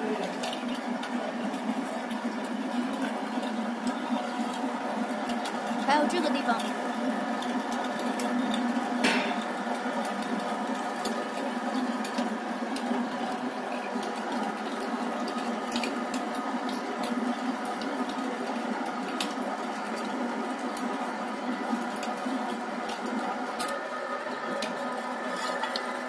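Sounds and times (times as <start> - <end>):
pipe threading machine humming: 0.0 - 26.0.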